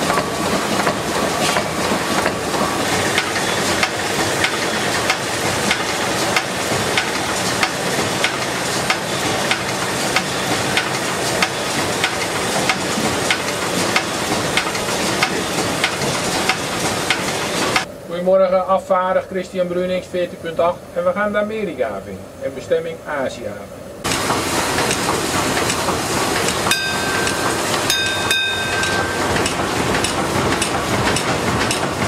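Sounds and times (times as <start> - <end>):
steam engine hiss and clatter: 0.0 - 17.9, 24.0 - 32.0.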